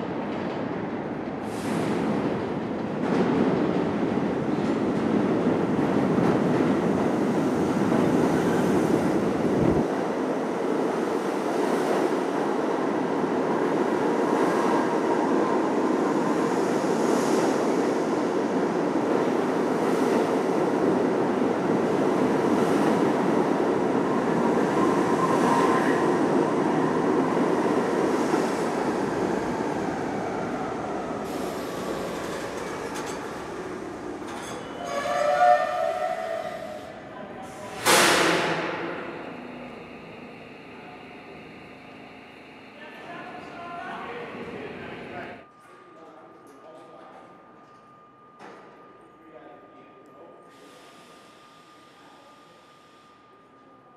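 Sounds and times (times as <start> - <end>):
subway train rumbling: 0.0 - 53.9.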